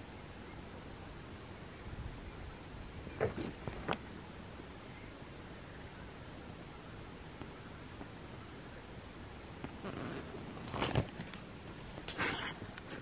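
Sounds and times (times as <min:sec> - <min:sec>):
high-pitched insect trill: 0:00.0 - 0:11.3.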